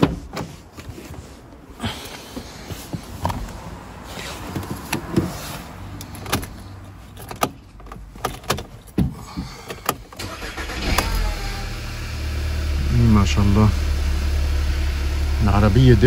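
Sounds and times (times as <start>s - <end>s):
car engine starting and running: 1.8s - 16.0s.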